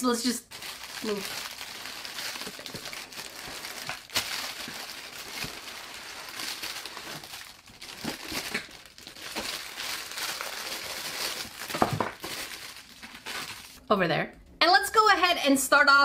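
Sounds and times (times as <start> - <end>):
plastic bags crinkling: 0.4 - 13.8.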